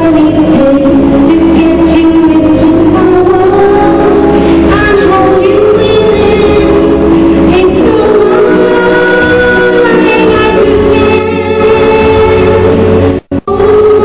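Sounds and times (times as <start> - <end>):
musical accompaniment: 0.0 - 14.0
person singing into microphone: 0.0 - 14.0.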